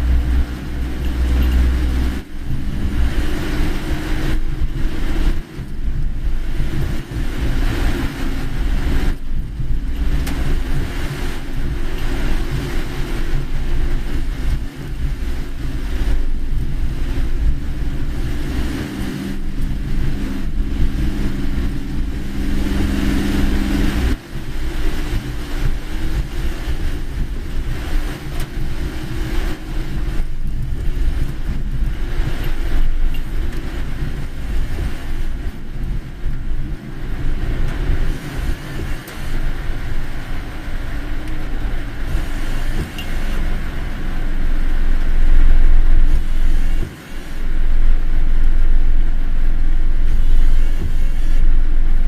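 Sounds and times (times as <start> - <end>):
car engine and tyre noise: 0.0 - 52.0
hiss of water and rain: 0.0 - 52.0
steady low hum: 0.0 - 52.0.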